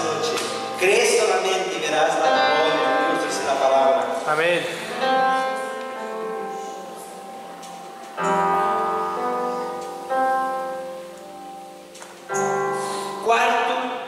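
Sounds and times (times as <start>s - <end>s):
electronic keyboard chords: 0.0s - 13.8s.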